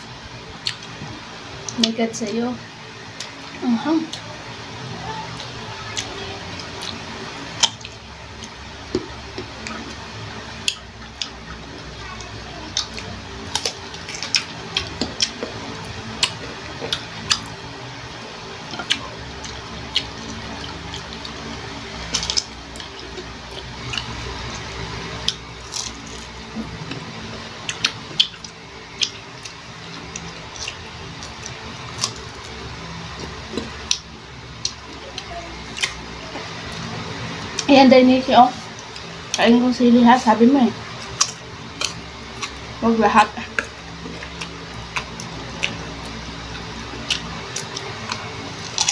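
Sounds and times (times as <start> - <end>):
wet chewing and mouth clicks: 0.5 - 1.0, 1.6 - 2.0, 5.3 - 37.7, 40.9 - 48.9
crunching while eating: 5.3 - 37.7, 40.9 - 48.9.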